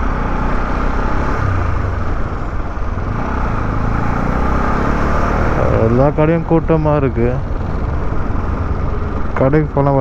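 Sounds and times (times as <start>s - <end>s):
motorcycle engine hum: 0.0s - 10.0s
wind and road noise: 0.0s - 10.0s.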